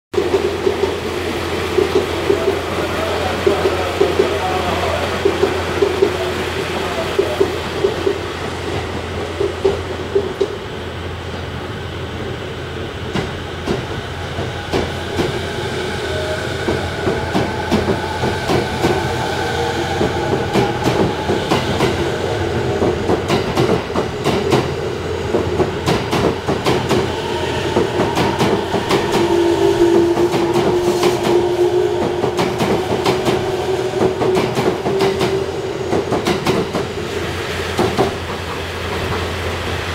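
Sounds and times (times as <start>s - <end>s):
train wheels clicking on rail joints: 0.2s - 2.6s, 3.3s - 10.7s, 13.0s - 15.6s, 16.6s - 39.8s.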